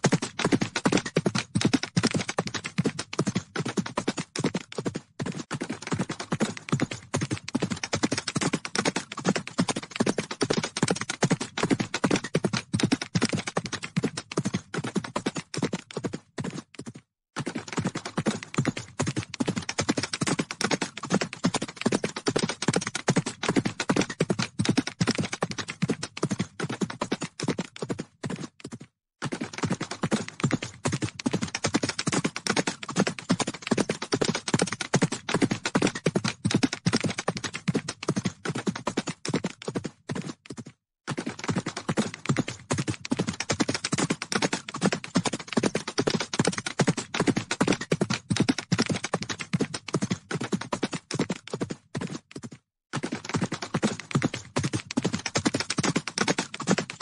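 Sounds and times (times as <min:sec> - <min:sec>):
horses galloping hoofbeats: 0:00.0 - 0:57.0.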